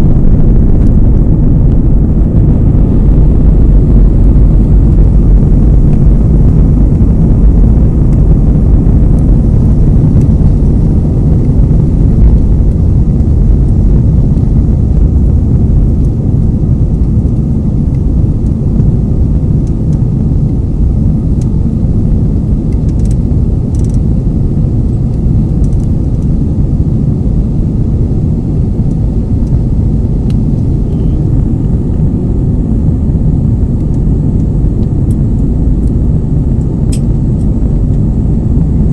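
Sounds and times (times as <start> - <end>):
aircraft engines rumbling: 0.0 - 38.9.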